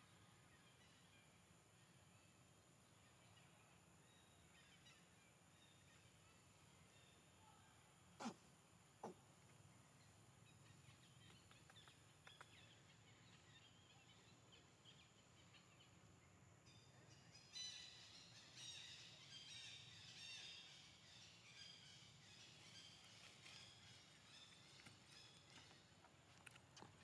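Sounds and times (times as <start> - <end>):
background hiss: 0.0 - 26.3.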